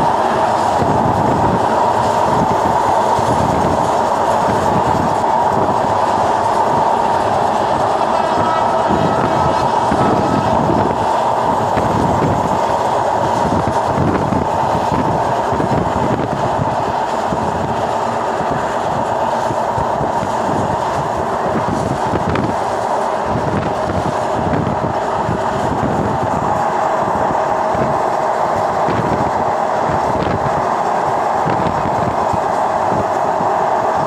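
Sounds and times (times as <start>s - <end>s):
train running hum: 0.0s - 34.0s
train wheels rumbling on rails: 0.0s - 34.0s.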